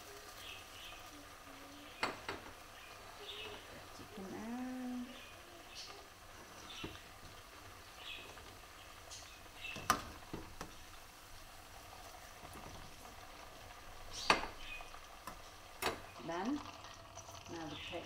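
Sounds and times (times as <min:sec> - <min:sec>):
oil bubbling sizzle: 0:00.0 - 0:18.0.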